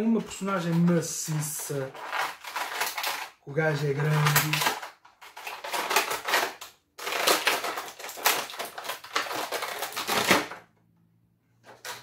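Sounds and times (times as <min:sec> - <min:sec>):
plastic packaging crinkling: 0:00.0 - 0:10.7, 0:11.6 - 0:12.0.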